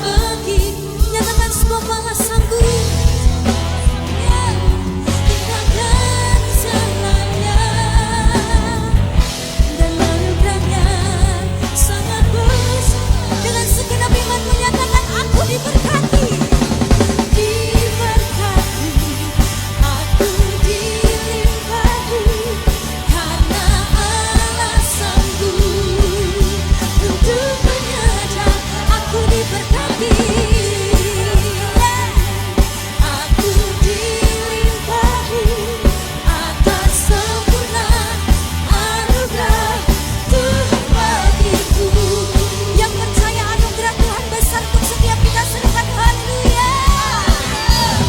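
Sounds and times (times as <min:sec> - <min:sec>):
steady drum beat: 0:00.0 - 0:48.0
voices singing melody: 0:00.0 - 0:48.0
worship band playing pop-rock: 0:00.0 - 0:48.0.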